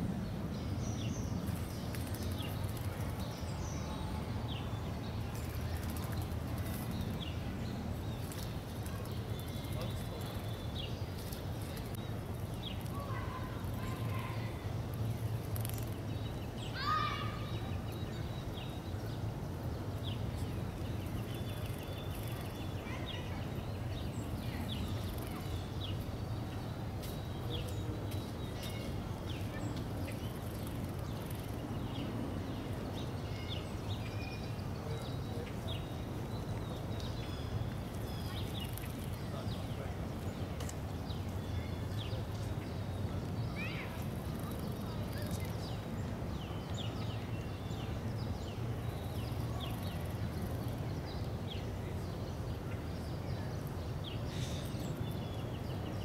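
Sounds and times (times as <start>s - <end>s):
low hum of city background: 0.0s - 56.0s
small birds chirping: 0.0s - 56.0s.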